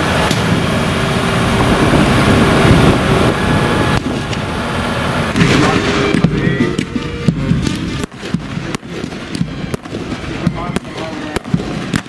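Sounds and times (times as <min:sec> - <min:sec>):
wind buffeting microphone: 0:00.0 - 0:11.0
jeep engine: 0:00.0 - 0:12.0.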